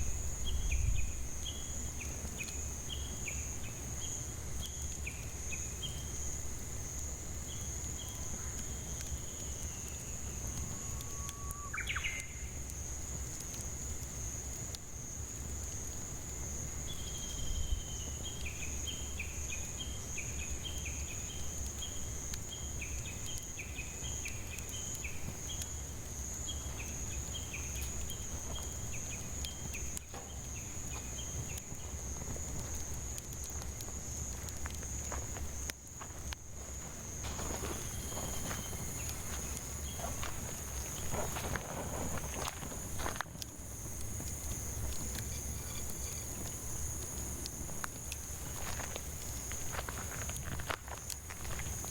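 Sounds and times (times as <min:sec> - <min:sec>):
cicadas buzzing: 0:00.0 - 0:51.9.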